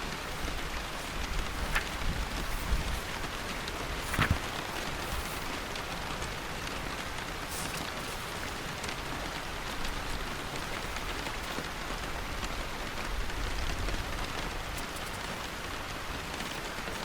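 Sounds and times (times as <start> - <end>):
rain falling on a surface: 0.0 - 17.0.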